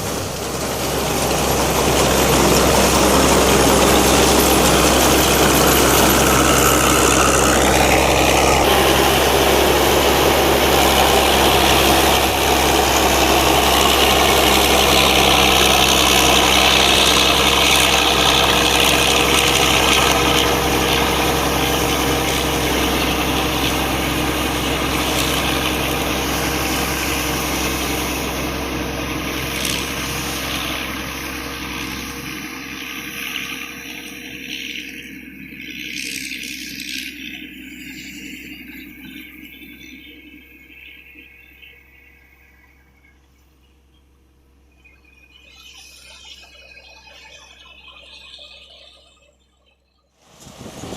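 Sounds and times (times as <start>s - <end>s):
combine harvester diesel engine: 0.0s - 49.6s, 50.2s - 50.9s.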